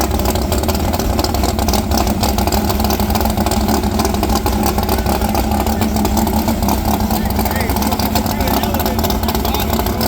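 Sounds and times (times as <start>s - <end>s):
car engine idling loudly: 0.0s - 10.0s.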